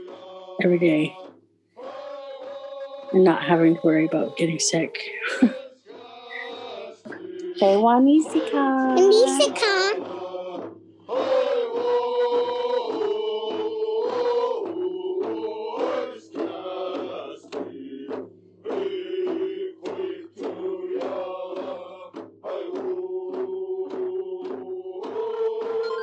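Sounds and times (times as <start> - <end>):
background music: 0.0 - 5.6, 6.2 - 26.0
chanted singing: 1.8 - 4.5, 5.1 - 10.5, 11.1 - 18.1, 18.7 - 26.0.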